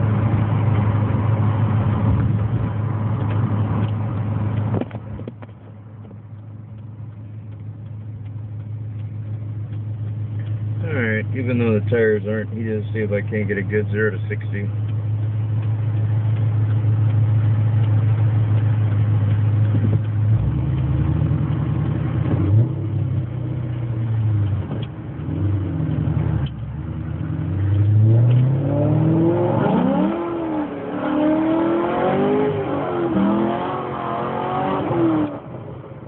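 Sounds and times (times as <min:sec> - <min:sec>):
car engine revving: 0:06.0 - 0:35.8.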